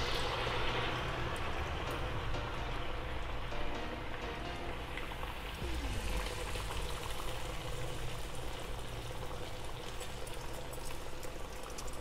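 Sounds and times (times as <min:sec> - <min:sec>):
dough deep-frying in oil: 0:00.0 - 0:12.0.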